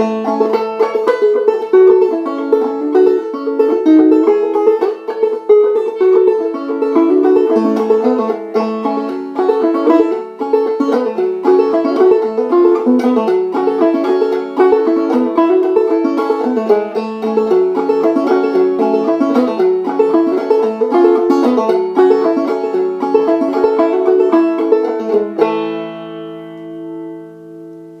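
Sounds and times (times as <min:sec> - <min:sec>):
banjo picking fiddle tune: 0:00.0 - 0:28.0.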